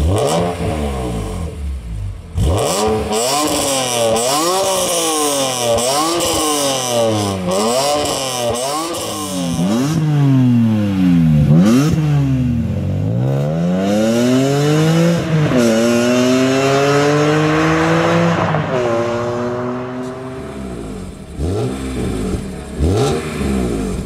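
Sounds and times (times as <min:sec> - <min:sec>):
car engine revving: 0:00.0 - 0:24.0
car accelerating with gear shifts: 0:02.4 - 0:24.0.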